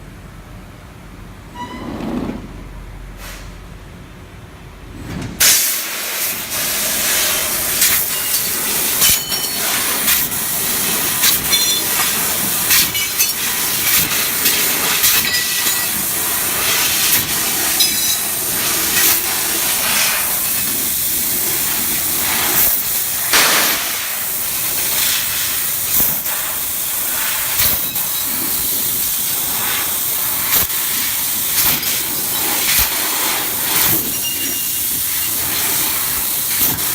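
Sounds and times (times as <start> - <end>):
laser cutter nozzle hiss: 5.4 - 36.9.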